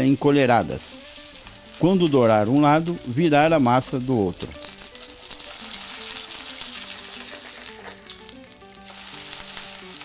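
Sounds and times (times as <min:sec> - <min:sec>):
fritters sizzling in hot oil: 0:00.0 - 0:10.0.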